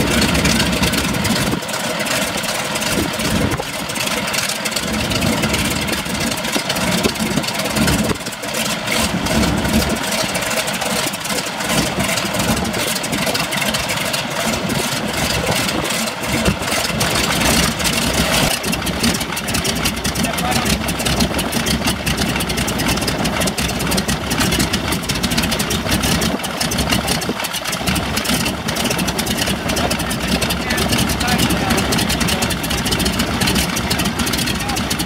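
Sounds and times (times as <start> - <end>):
radial aircraft engine running: 0.0 - 35.0.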